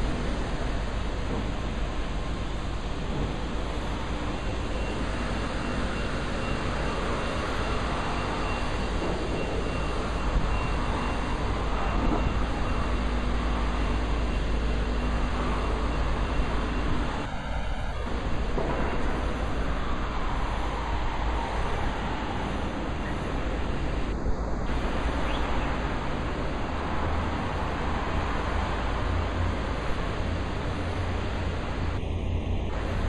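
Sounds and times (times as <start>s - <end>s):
distant city traffic rumble: 0.0s - 33.0s.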